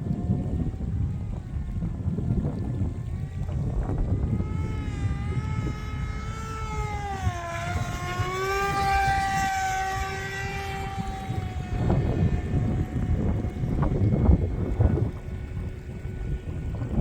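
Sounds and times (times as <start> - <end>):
electric motor and propeller whining: 0.0 - 17.0
wind rumble on microphone: 0.0 - 17.0.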